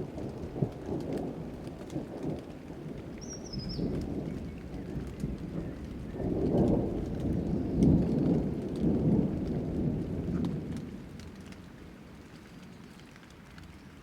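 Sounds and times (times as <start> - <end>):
thunder rumbling: 0.0 - 11.9
steady rain: 0.0 - 14.0.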